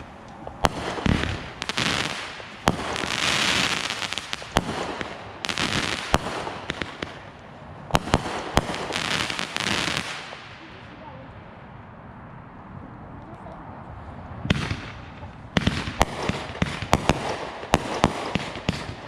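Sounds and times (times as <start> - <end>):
fireworks bangs: 0.0 - 11.0, 14.4 - 19.0
fireworks crackling and hissing: 0.0 - 11.4, 14.2 - 19.0.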